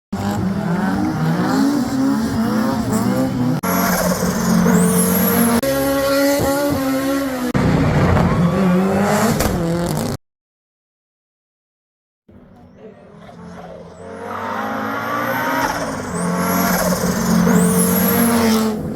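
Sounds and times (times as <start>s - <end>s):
rally car engines revving: 0.2s - 10.2s, 12.3s - 18.9s.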